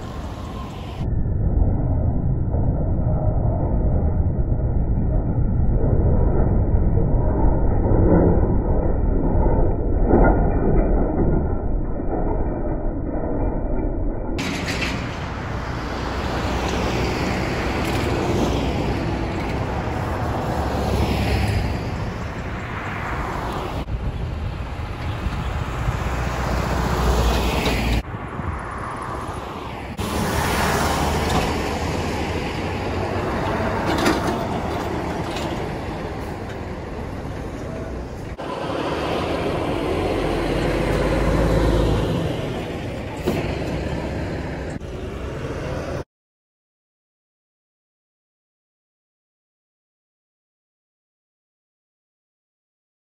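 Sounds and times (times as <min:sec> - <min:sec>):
heavy road traffic: 0:00.0 - 0:12.1, 0:14.4 - 0:46.1
truck engine rumble: 0:00.0 - 0:46.0.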